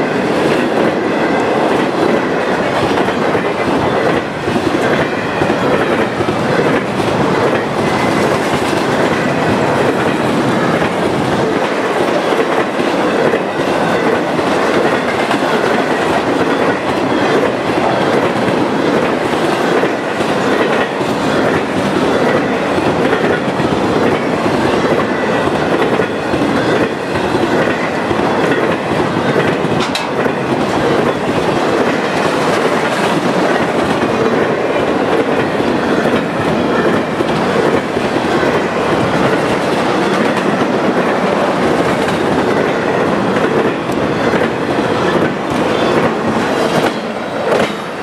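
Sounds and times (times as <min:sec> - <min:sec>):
freight train rumbling past: 0:00.0 - 0:48.0
wheels clacking over rail joints: 0:00.0 - 0:48.0.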